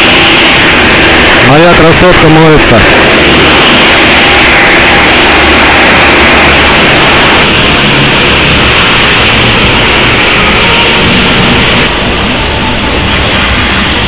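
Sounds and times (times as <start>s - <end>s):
car wash machinery droning: 0.0s - 14.0s.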